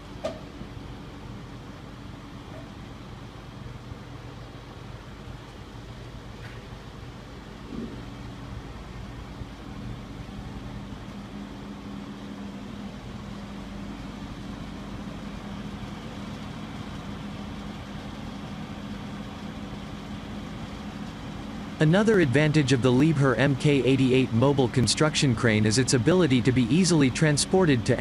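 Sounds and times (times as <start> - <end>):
crane engine humming: 0.0 - 28.0.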